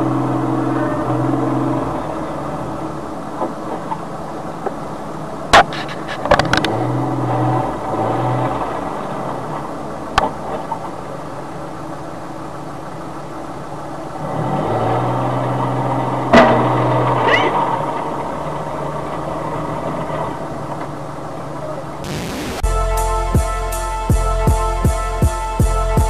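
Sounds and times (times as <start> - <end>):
street traffic: 0.0 - 22.6
car engine noise: 0.0 - 23.0.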